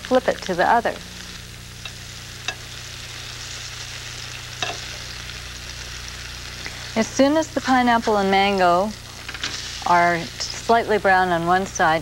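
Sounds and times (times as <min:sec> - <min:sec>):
fruit sizzling in a skillet: 0:00.0 - 0:12.0
steady low hum: 0:00.0 - 0:12.0.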